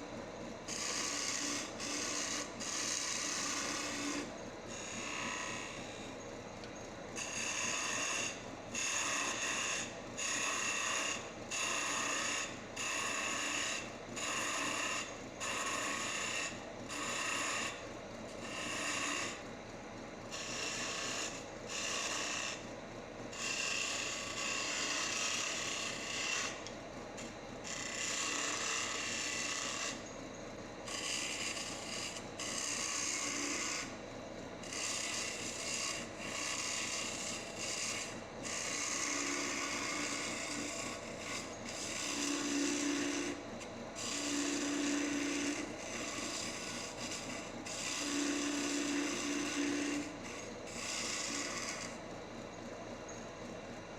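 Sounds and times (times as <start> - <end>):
wood lathe spinning: 0.0 - 53.9
turning tool scraping wood: 0.6 - 19.5, 20.3 - 22.7, 23.3 - 30.2, 30.8 - 34.0, 34.6 - 52.1.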